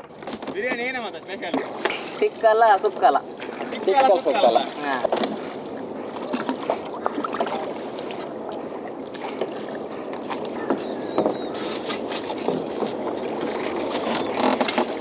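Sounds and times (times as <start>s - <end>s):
small knocks and splashes: 0.0s - 5.6s, 6.2s - 8.2s, 10.3s - 15.0s
water washing: 0.0s - 15.0s.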